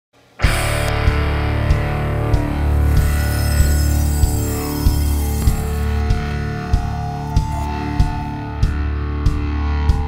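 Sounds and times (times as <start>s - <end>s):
music with heavy beat: 0.5s - 10.0s.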